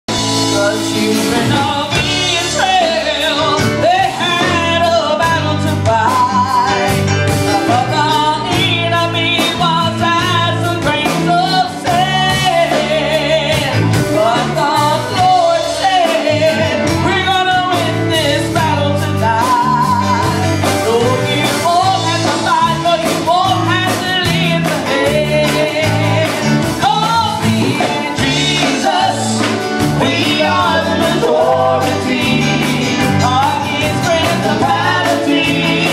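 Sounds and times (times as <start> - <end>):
band playing: 0.1 - 35.9
woman singing: 0.6 - 35.9.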